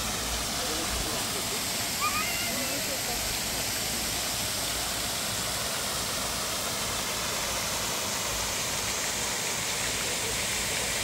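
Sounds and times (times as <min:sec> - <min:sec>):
fountain jets splashing: 0:00.0 - 0:11.0
waterfall falling into pond: 0:00.0 - 0:11.0.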